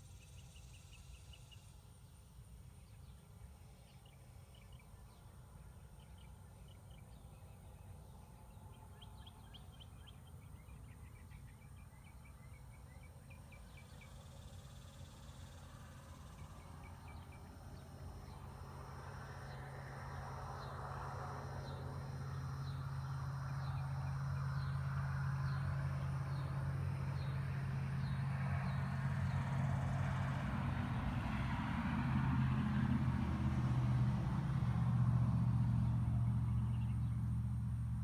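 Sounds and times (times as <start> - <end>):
low engine hum: 2.5 - 38.0.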